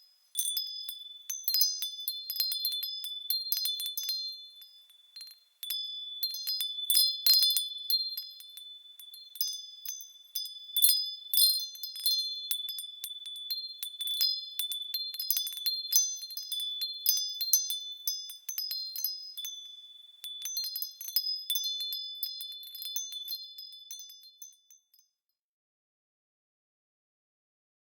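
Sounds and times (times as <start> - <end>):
wind chimes ringing: 0.0 - 25.1.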